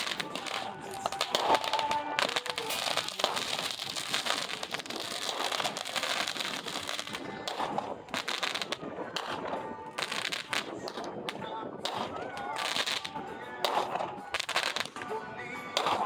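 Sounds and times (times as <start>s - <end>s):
fireworks crackling: 0.0s - 16.0s.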